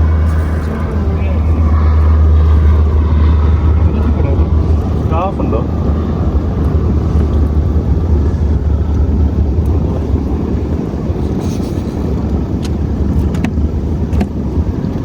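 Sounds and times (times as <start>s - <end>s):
motorboat engine rumble: 0.0s - 15.0s.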